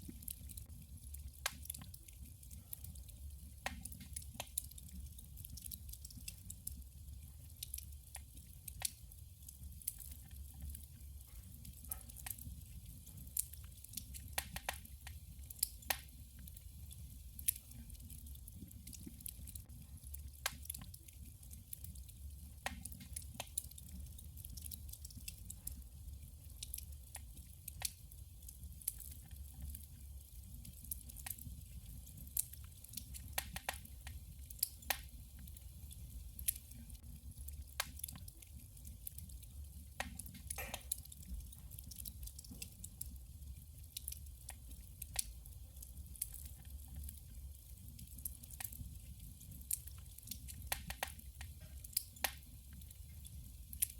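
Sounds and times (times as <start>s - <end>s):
firewood crackling and popping: 0.0s - 53.9s
low rumble of fire: 0.0s - 53.9s.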